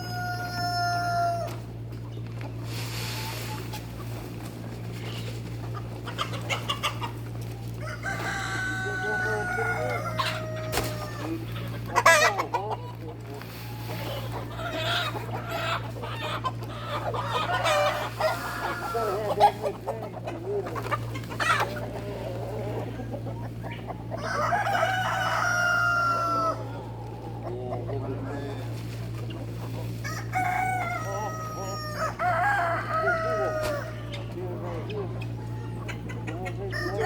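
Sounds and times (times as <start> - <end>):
hens clucking: 0.0 - 37.0
roosters crowing: 0.0 - 37.0
steady low hum: 0.0 - 37.0.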